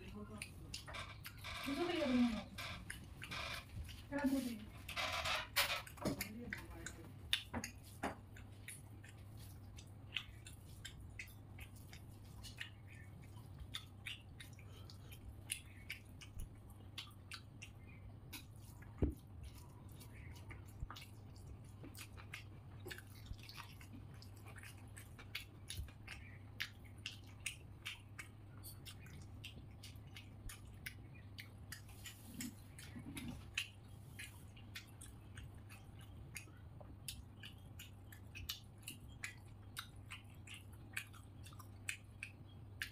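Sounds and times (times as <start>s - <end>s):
chewing with wet mouth clicks: 0.0s - 1.7s, 2.5s - 5.0s, 5.7s - 42.9s
faint low hum: 0.0s - 42.9s.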